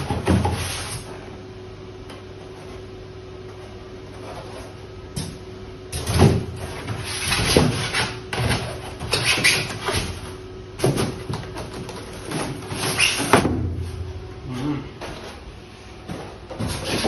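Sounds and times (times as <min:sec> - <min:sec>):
faint steady hum: 0:00.0 - 0:16.7.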